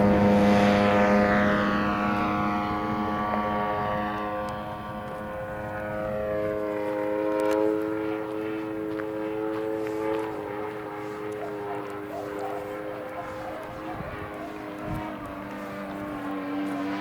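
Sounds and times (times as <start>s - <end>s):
model airplane motor buzzing: 0.0s - 17.0s.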